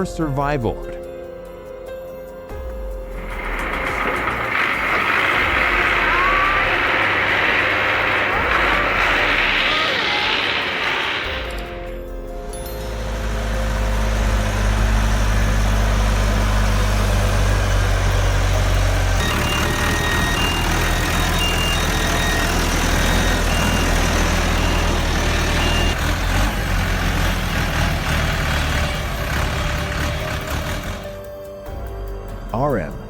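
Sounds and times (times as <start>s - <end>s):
heavy vehicle engine droning: 3.0s - 32.6s.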